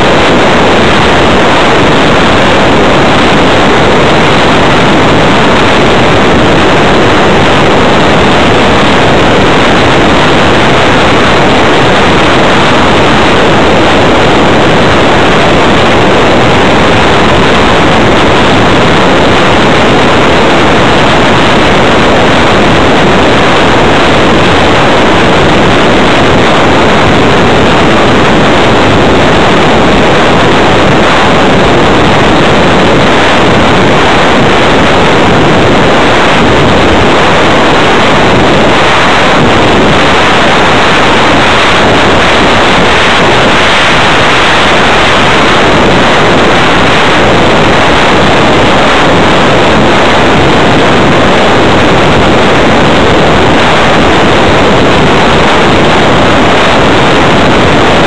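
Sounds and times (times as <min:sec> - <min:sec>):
airstream rushing over camera: 0:00.0 - 0:52.8.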